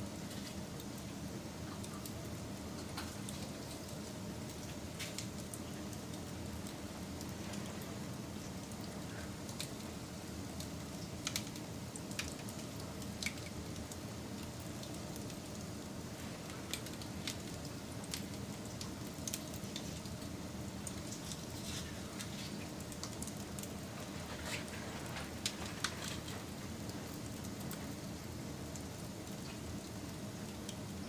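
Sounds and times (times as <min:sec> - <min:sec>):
fire pops and crackles: 0:00.0 - 0:31.0
wood fire burning: 0:00.0 - 0:31.0.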